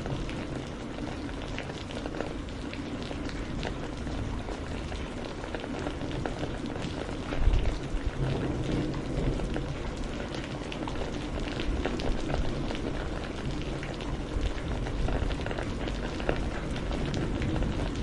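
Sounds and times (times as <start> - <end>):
rain hiss: 0.0 - 18.0
raindrop ticks: 0.0 - 18.0.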